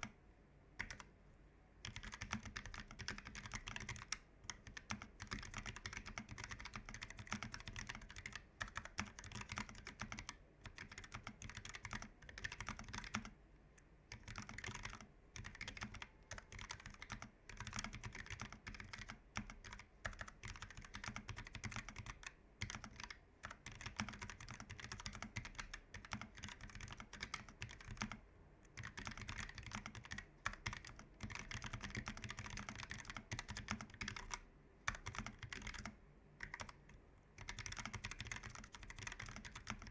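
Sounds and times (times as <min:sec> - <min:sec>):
fast typing on mechanical keyboard: 0:00.8 - 0:01.1, 0:01.8 - 0:13.3, 0:14.1 - 0:28.2, 0:28.8 - 0:39.9.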